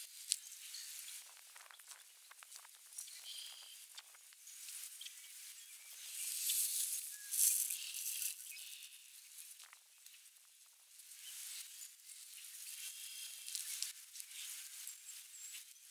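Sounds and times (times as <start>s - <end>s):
rustling in dry grass: 0.0s - 15.8s.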